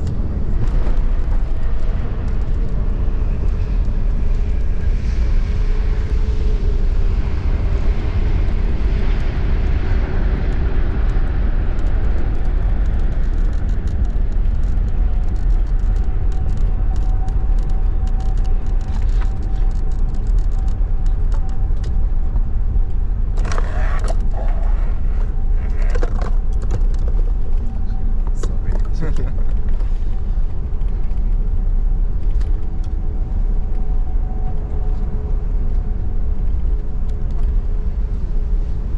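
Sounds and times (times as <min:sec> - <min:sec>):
airliner deep rumble and rushing: 0:00.0 - 0:38.9.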